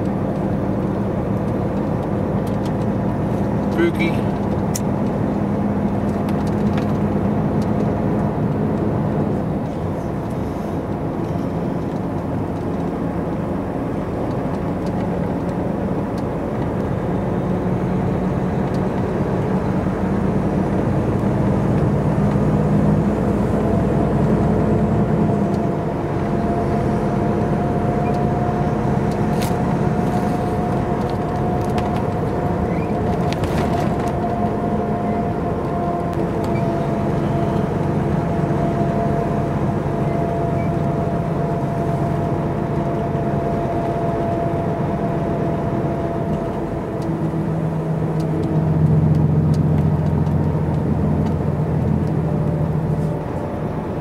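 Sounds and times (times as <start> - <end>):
road noise: 0.0 - 54.0
truck diesel engine droning: 0.0 - 54.0.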